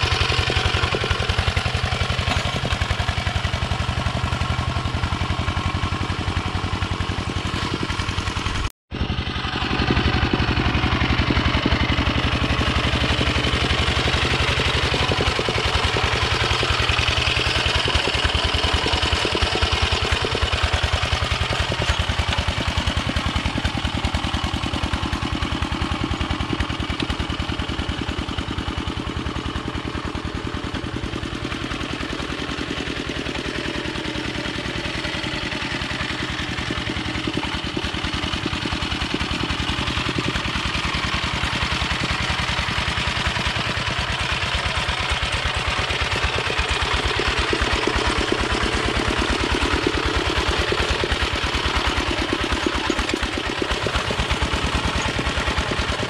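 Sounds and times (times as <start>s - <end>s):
diesel tractor engine chugging: 0.0s - 56.0s.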